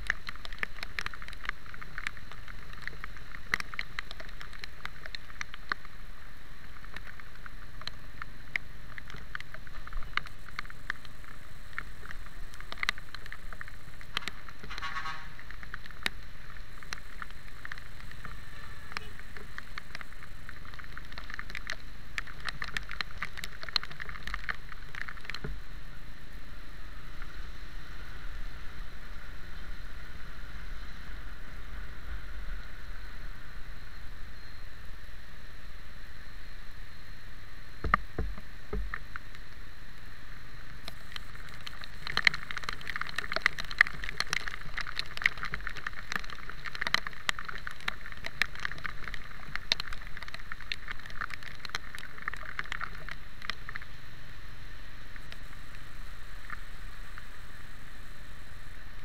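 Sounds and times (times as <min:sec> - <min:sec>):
raindrops pattering on camera: 0:00.0 - 0:59.0
steady hiss of riding: 0:00.0 - 0:59.0.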